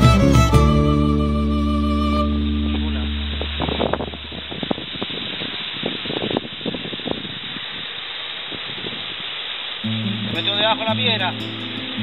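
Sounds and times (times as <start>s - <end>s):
wind noise on microphone: 0.0s - 10.4s.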